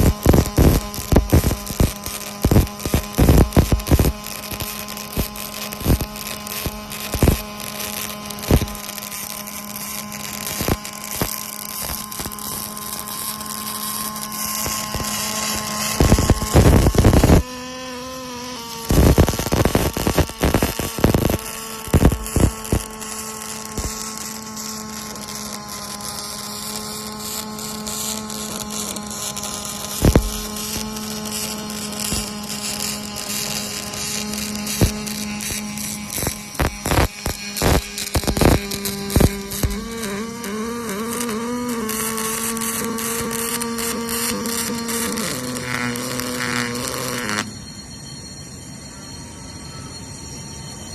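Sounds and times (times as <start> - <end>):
welding arc crackle: 0.0 - 47.6
electrical hum: 0.0 - 50.9.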